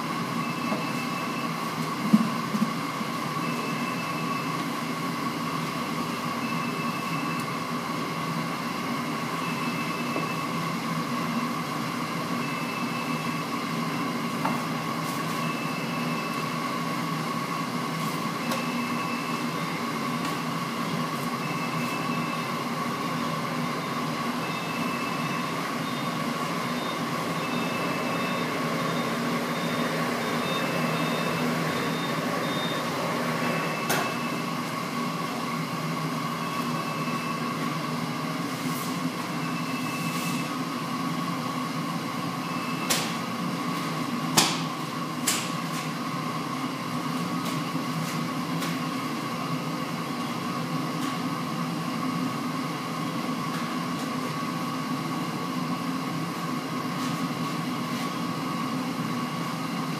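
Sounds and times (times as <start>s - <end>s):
machinery drone with whine: 0.0s - 59.9s.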